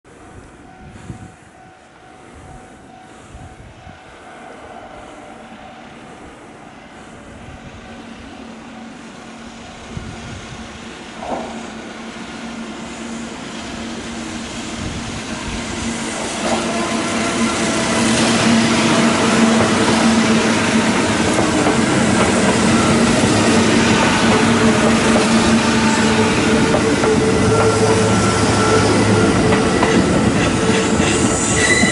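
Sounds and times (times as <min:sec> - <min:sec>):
electric train passing: 0:00.1 - 0:31.9.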